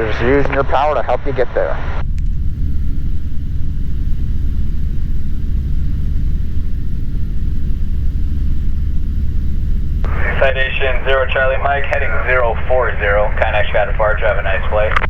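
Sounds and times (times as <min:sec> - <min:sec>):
airplane engine drone in cabin: 0:00.0 - 0:15.0.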